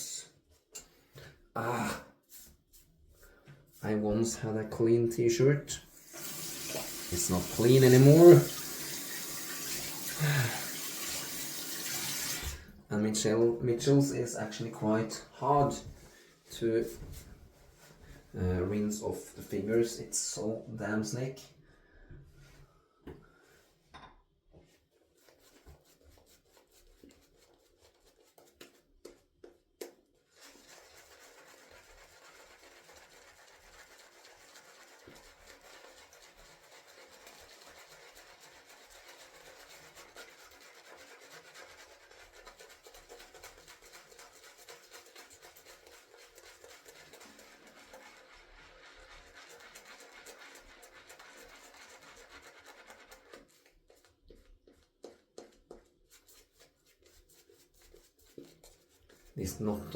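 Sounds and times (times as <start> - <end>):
shaving brush lathering soap: 2.3 - 4.4, 5.8 - 17.2, 25.0 - 59.9.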